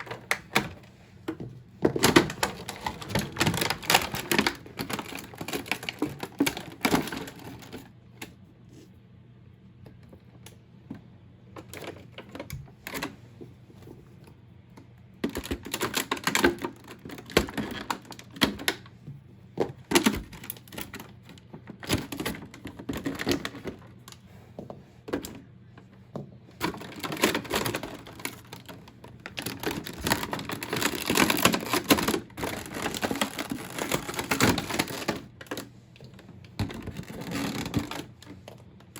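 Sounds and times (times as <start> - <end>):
cardboard and plastic packaging rustling: 0.0 - 8.0, 15.2 - 38.9.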